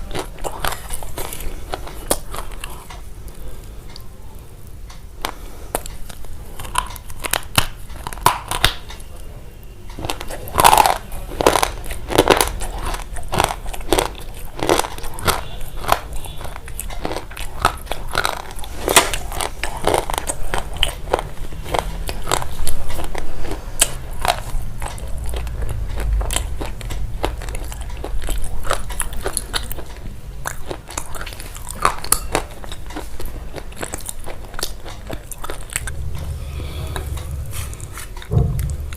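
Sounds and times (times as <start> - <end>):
crunching and chewing: 0.0 - 9.3, 9.9 - 38.9.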